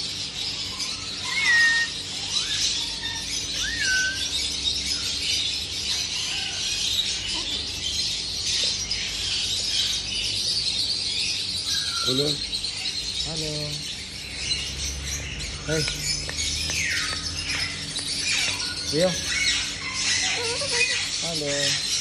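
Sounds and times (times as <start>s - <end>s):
caged birds chirping: 0.0s - 22.0s.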